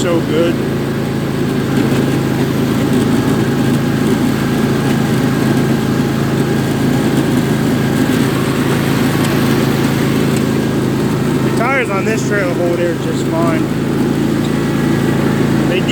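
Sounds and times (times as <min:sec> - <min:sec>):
riding mower engine running: 0:00.0 - 0:15.9.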